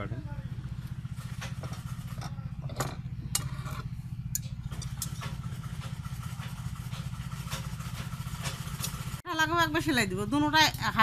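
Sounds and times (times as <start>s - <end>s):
small engine running: 0.0s - 9.2s.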